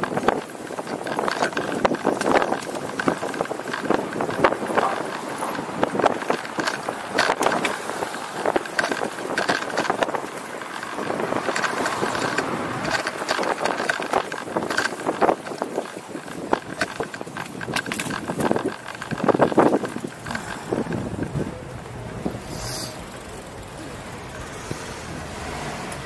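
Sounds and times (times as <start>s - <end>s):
bicycle rattling and knocking: 0.0s - 26.0s
steady rushing noise: 0.0s - 26.0s.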